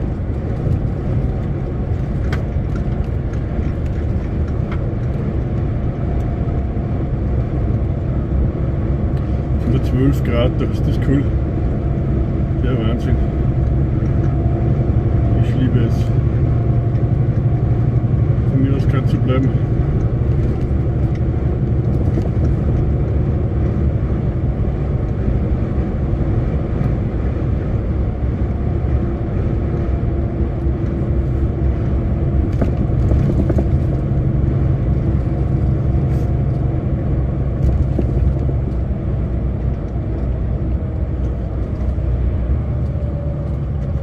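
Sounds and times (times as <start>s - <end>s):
lorry diesel engine rumble: 0.0s - 44.0s
road noise: 0.0s - 44.0s.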